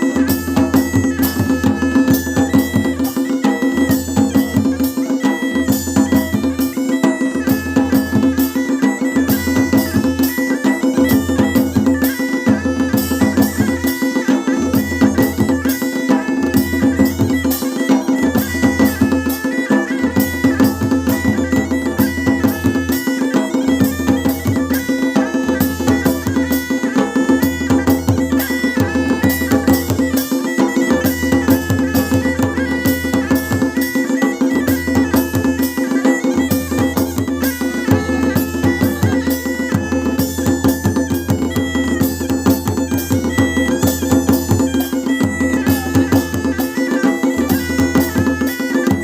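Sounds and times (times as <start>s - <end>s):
bagpipe melody with drone: 0.0s - 49.0s
drums beating fast rhythm: 0.0s - 49.0s.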